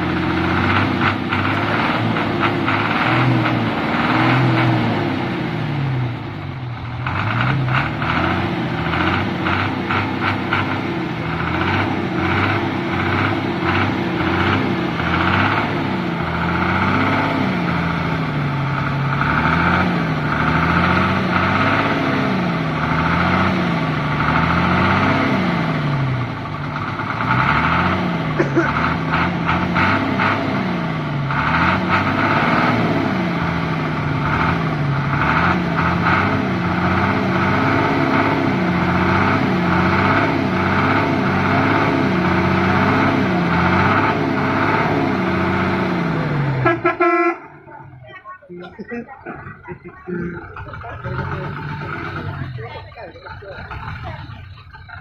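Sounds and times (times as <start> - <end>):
truck diesel engine revving: 0.0 - 55.0.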